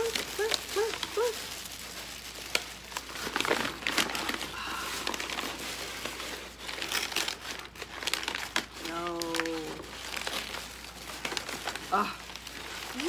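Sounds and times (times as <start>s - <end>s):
paper crinkling: 0.0s - 13.0s
plastic bag rustling: 0.0s - 13.0s.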